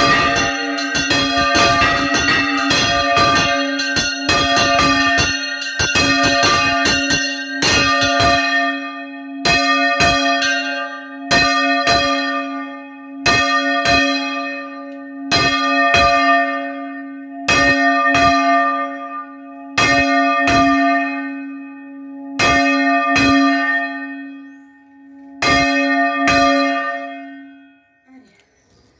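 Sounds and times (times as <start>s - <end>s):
church bells ringing: 0.0s - 28.8s.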